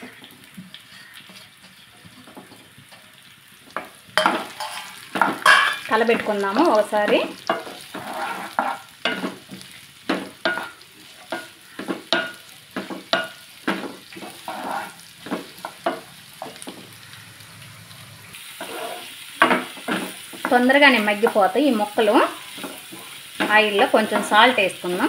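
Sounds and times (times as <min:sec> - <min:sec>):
oil sizzling: 0:00.0 - 0:25.0
spatula scraping in a pan: 0:00.8 - 0:03.2, 0:03.8 - 0:05.9, 0:07.1 - 0:16.6, 0:18.4 - 0:20.6, 0:21.3 - 0:25.0.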